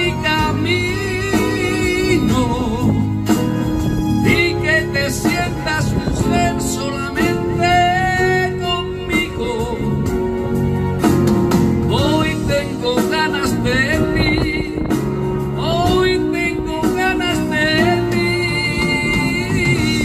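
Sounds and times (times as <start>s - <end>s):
man singing into microphone: 0.0s - 10.5s, 11.8s - 20.0s
ballad backing track: 0.0s - 20.0s.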